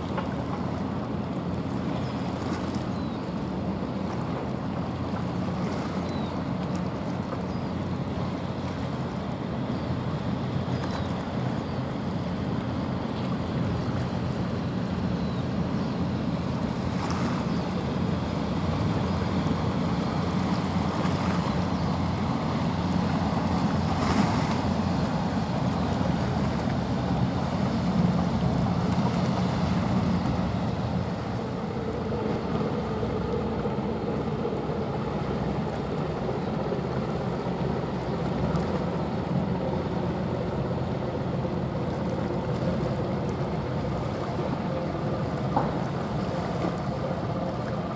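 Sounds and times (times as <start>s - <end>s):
bow wave rushing on water: 0.0s - 47.9s
ship engine humming: 0.0s - 47.9s.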